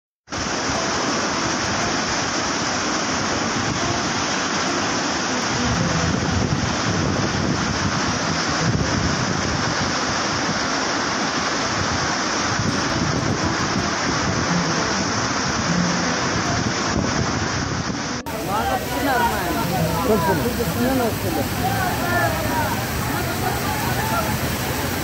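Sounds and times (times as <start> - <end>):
flood water rushing: 0.3 - 25.0.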